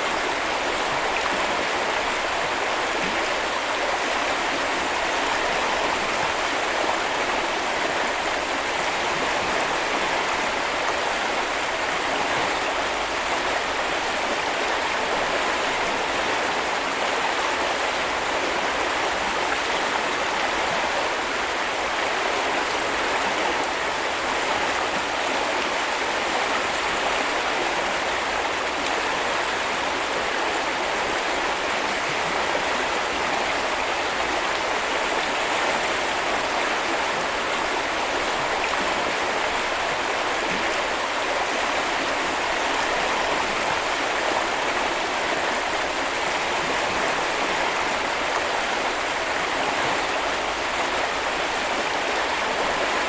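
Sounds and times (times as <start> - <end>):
brook flowing: 0.0 - 53.0.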